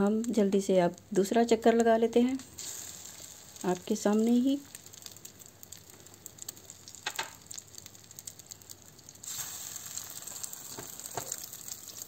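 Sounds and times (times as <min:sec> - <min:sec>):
patties frying in oil: 0:00.0 - 0:12.0.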